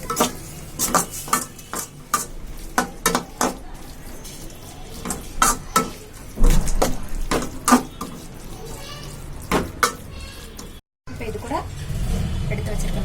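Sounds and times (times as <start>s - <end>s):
spatula scraping a pan: 0.0s - 10.8s.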